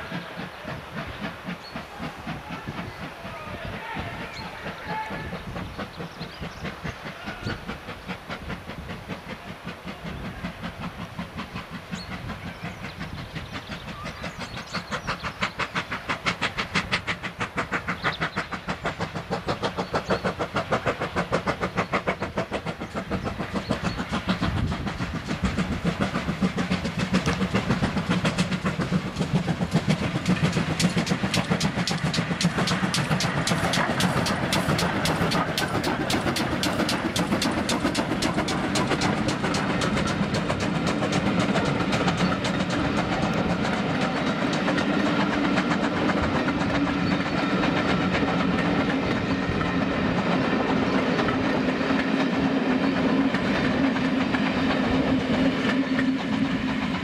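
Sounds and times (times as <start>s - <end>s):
steam locomotive chuffing: 0.0s - 57.0s.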